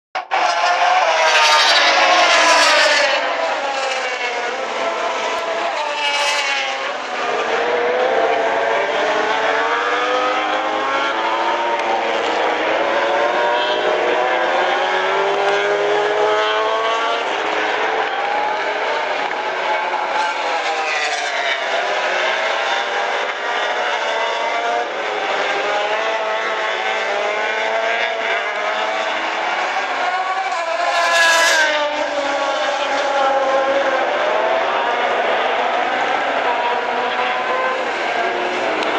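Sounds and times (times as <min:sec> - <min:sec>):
distant racing motorcycle engines: 0:00.2 - 0:38.9.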